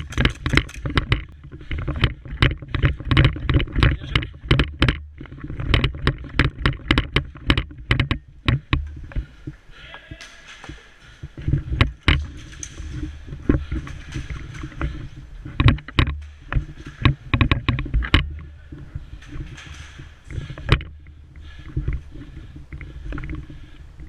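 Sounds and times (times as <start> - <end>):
sharp clicks and knocks: 0.0 - 9.6, 10.2 - 23.6
rumble of movement and gear: 0.0 - 9.7, 10.7 - 24.0.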